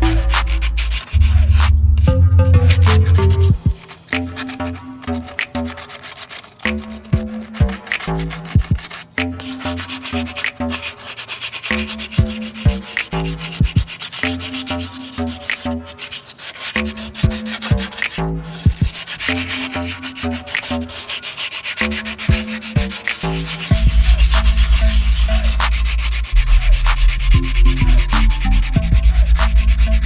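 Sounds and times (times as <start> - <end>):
background music with bass line: 0.0 - 6.0, 6.7 - 11.0, 11.7 - 16.1, 16.7 - 21.2, 21.8 - 30.0
sandpaper scraping metal: 0.0 - 30.0.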